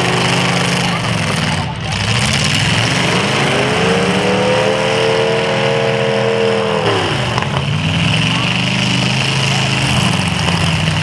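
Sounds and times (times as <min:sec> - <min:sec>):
another engine running: 0:00.0 - 0:11.0
car engine revving: 0:00.0 - 0:11.0.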